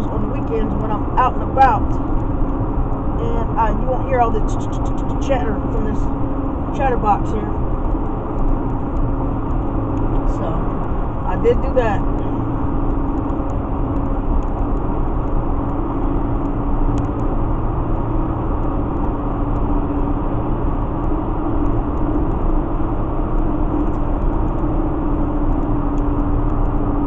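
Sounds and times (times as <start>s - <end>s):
road and engine noise: 0.0s - 27.0s.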